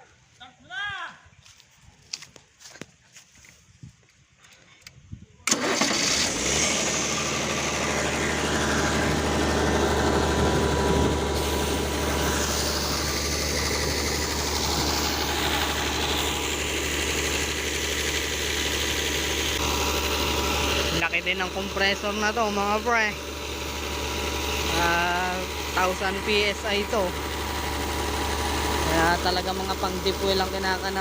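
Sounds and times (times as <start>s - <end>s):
air compressor running: 5.5s - 31.0s.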